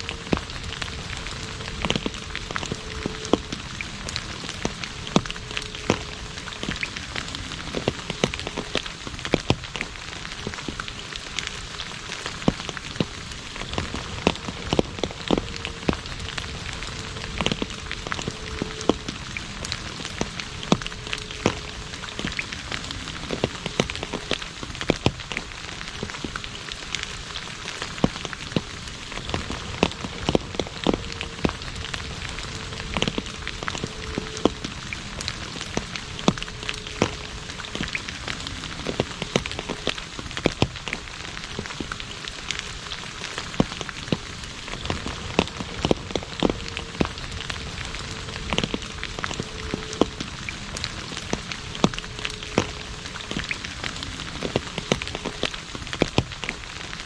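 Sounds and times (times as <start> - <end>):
rain falling on asphalt: 0.0 - 57.0
raindrop splats: 0.0 - 57.0.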